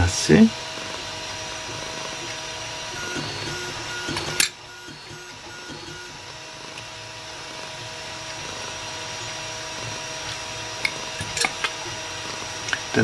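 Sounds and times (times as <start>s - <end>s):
small machine humming: 0.0s - 13.0s.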